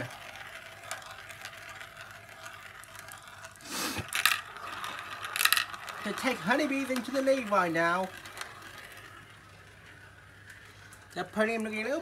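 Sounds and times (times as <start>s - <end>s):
marbles rolling in plastic bowls: 0.0s - 12.0s
marbles rushing: 0.0s - 12.0s.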